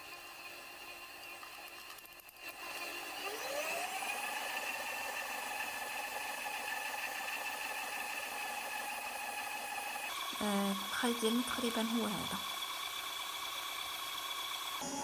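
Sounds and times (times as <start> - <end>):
stand mixer motor whirring: 0.0 - 15.0.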